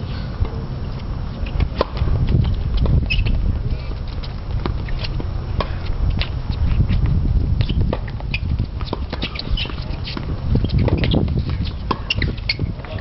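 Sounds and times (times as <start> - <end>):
shoes tapping and scuffing: 1.0 - 13.0
racquets striking tennis ball: 1.4 - 3.4, 4.0 - 7.0, 7.6 - 13.0.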